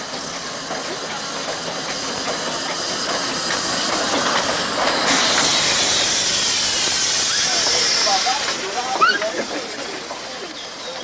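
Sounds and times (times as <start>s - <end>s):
hiss of escaping steam: 0.0s - 11.0s
steam locomotive moving slowly: 0.0s - 11.0s.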